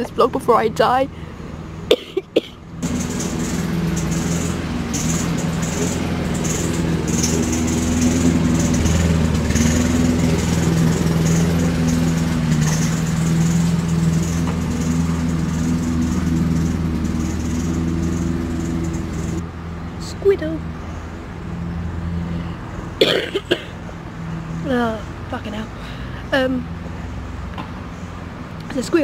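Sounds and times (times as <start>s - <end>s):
lawnmower engine running: 1.5s - 25.3s.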